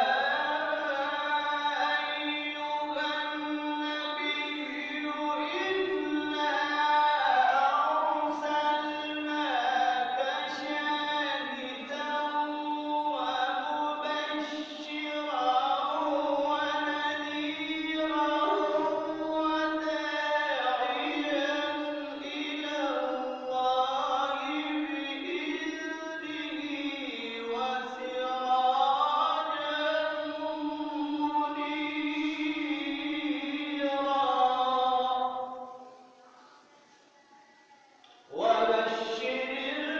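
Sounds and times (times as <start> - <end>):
man chanting: 0.0 - 35.8, 38.1 - 39.9.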